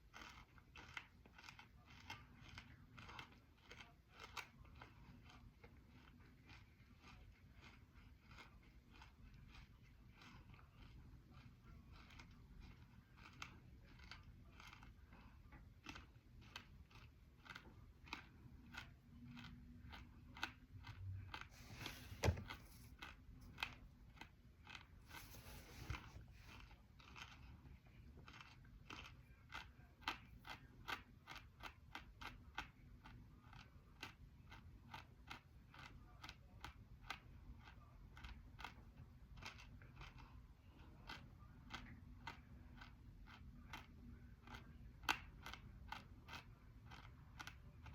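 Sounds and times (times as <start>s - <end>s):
crunchy chewing: 0.0s - 47.9s.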